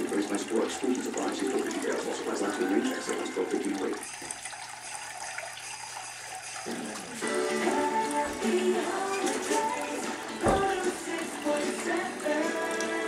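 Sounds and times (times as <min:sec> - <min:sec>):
fountain water trickling and splashing: 0:00.0 - 0:13.0.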